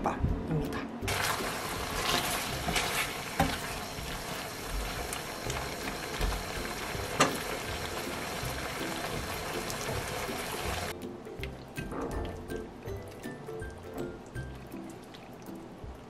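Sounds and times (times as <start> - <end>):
sauce bubbling and sizzling: 1.1 - 16.0.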